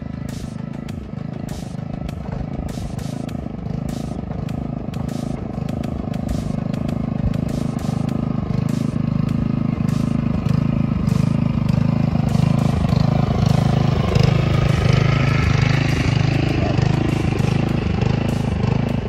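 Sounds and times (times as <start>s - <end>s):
small locomotive engine running: 0.0s - 19.0s.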